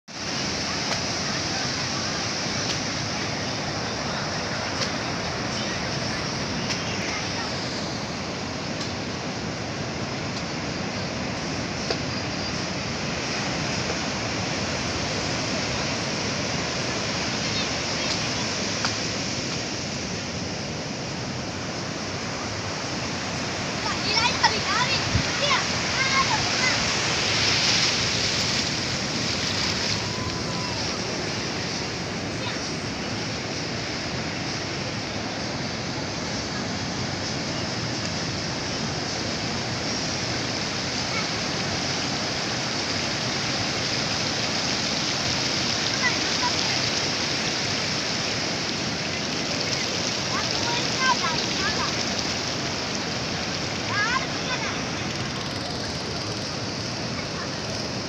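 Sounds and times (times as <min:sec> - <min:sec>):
waves breaking on sandy beach: 0:00.1 - 0:58.0.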